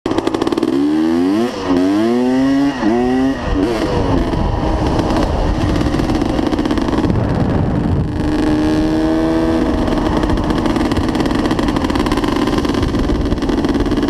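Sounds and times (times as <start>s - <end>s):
dirt bike engine accelerating: 0.1s - 14.0s.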